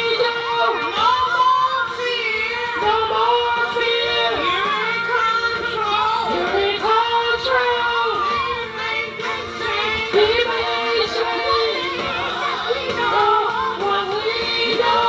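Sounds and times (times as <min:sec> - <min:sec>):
backing music: 0:00.0 - 0:15.0
person singing gospel: 0:00.0 - 0:15.0.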